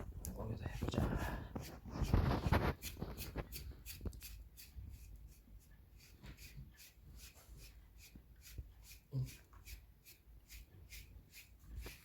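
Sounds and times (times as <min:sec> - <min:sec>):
brush stroking cat fur: 0:00.0 - 0:12.0.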